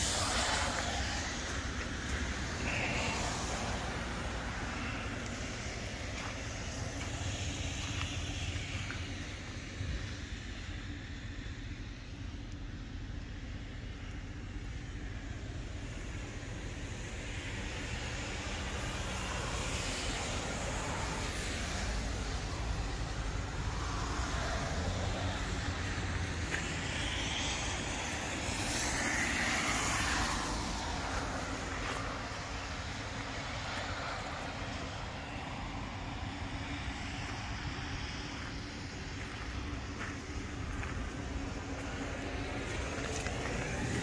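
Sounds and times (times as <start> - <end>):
vehicle engine idling: 0.0 - 17.0, 20.1 - 28.8, 30.0 - 44.0
broad outdoor hiss: 0.0 - 44.0.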